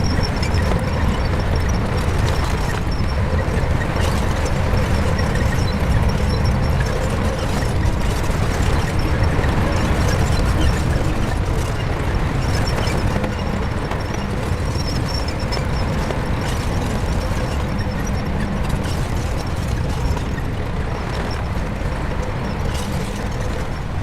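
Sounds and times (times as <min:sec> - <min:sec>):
bulldozer diesel engine running: 0:00.0 - 0:24.0
mechanical clatter: 0:00.0 - 0:24.0.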